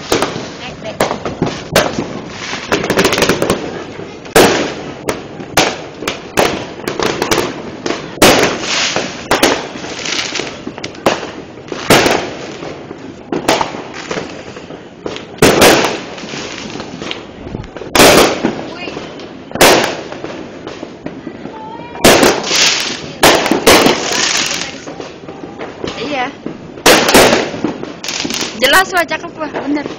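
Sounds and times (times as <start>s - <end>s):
fireworks sharp bangs: 0.0s - 29.9s
rumble of distant fireworks: 0.0s - 29.9s.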